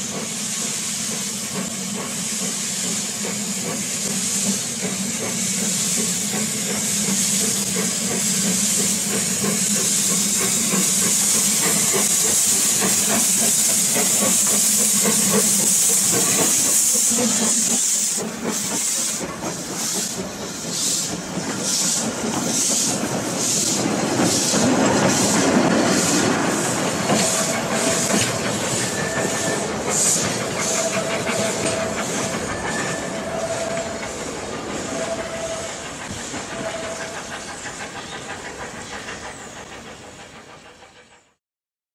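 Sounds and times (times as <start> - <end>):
steam engine exhaust chuffs: 0.0 - 41.3
steam hissing from cylinders: 0.0 - 41.4.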